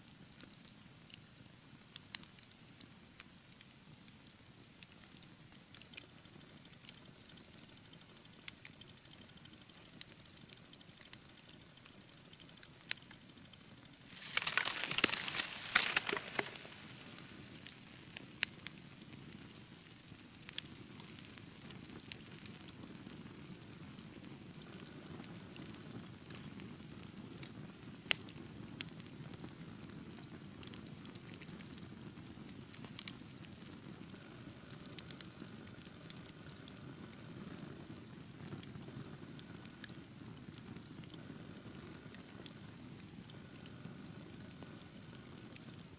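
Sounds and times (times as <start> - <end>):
fire crackling and popping: 0.2 - 45.9.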